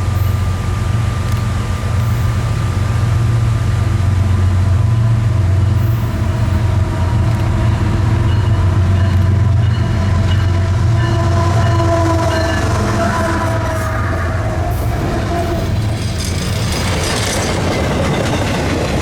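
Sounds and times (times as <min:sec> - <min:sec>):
locomotive engine rumble: 0:00.0 - 0:19.0.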